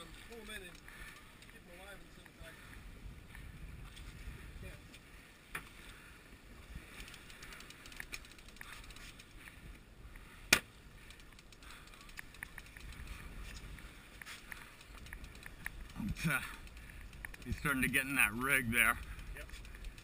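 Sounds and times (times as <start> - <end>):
faint ticks: 0.0 - 4.1, 6.9 - 10.3, 10.9 - 20.0
wind: 0.0 - 20.0.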